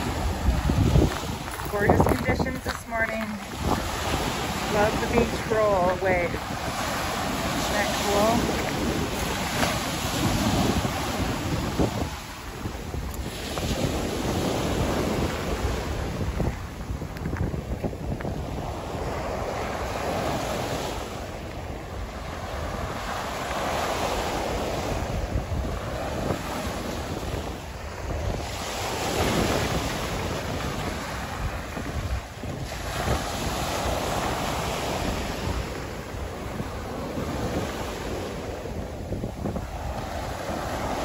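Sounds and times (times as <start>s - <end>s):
small waves breaking on beach: 0.0s - 41.0s
wind buffeting microphone: 0.0s - 41.0s.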